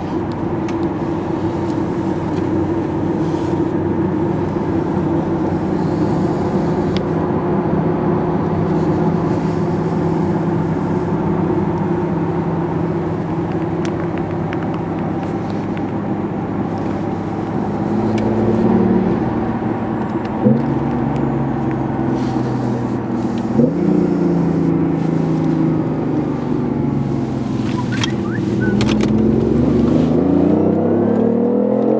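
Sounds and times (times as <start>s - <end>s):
car engine running: 0.0s - 31.6s.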